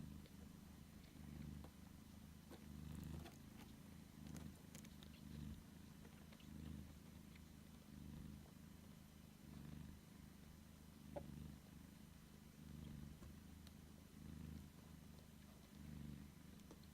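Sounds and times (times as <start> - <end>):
cat purring: 0.0 - 16.9.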